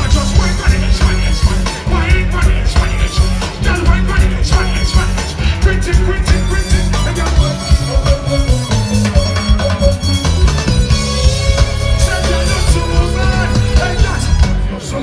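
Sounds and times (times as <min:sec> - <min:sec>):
live reggae band music: 0:00.0 - 0:15.0.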